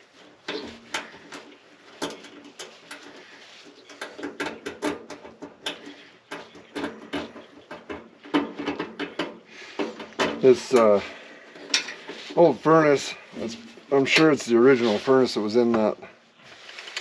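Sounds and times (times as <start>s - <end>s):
hand tools and metal parts clinking: 0.0s - 17.0s.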